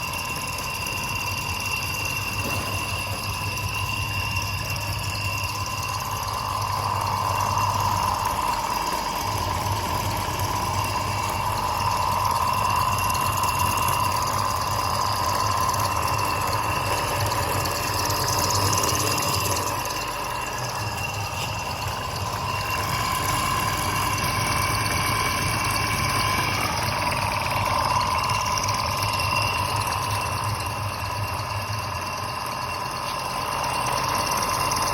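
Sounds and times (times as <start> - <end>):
compressor electric hum: 0.0 - 34.9
compressor whine: 0.0 - 34.9.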